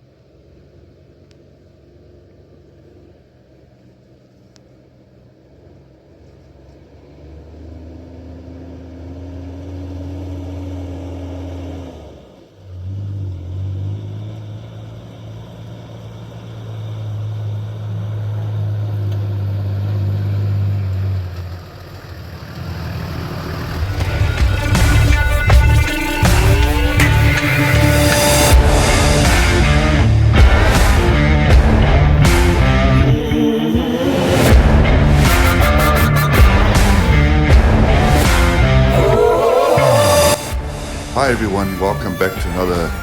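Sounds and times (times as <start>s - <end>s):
vehicle engine running under load: 0.0s - 38.9s.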